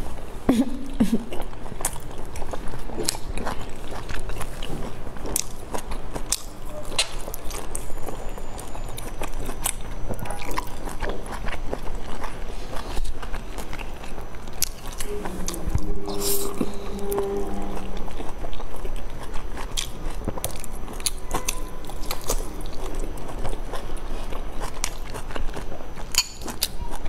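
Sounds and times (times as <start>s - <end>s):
chewing with wet mouth clicks: 1.3s - 15.6s, 17.8s - 27.0s.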